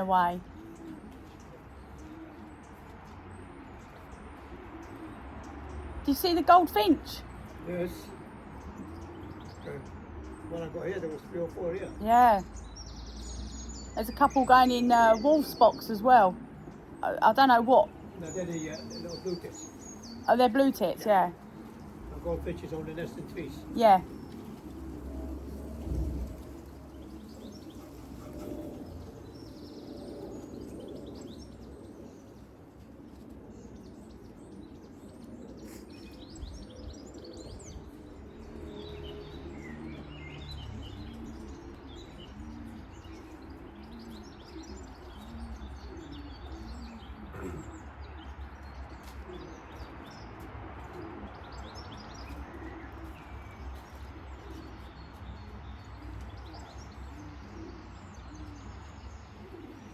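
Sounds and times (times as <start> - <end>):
pigeons cooing: 0.0 - 59.9
songbirds chirping: 0.0 - 59.9.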